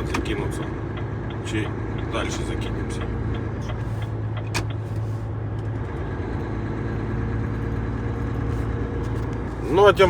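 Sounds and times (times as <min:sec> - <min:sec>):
diesel truck engine droning: 0:00.0 - 0:10.0.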